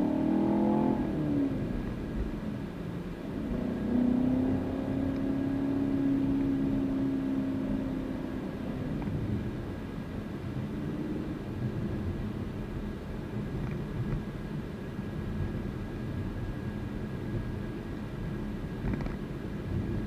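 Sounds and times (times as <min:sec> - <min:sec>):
car engine droning: 0:00.0 - 0:20.0
road noise: 0:00.0 - 0:20.0.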